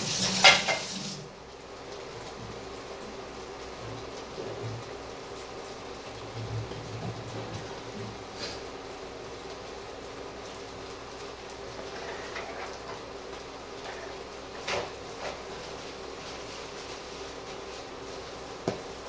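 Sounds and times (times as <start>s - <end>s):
food sizzling in a wok: 0.0s - 19.0s
crackles and pops: 2.0s - 19.0s.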